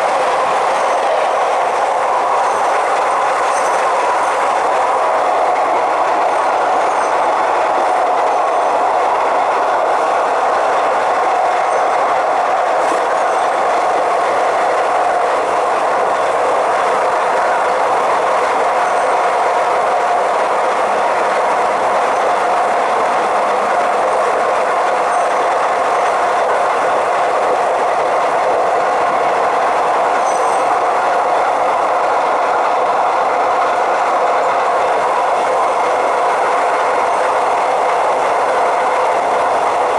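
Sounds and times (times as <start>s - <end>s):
electric train running: 0.0s - 39.9s.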